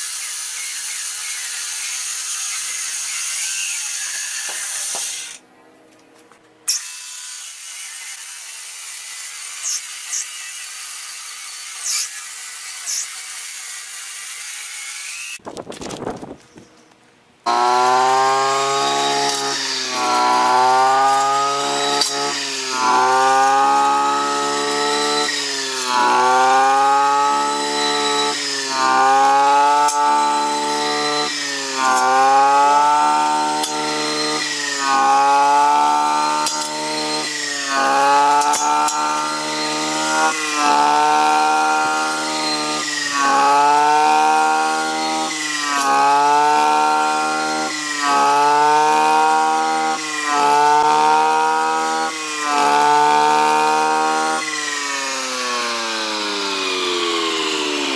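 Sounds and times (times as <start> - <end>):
chainsaw cutting wood: 0.0 - 5.4, 6.7 - 15.4, 17.5 - 57.9.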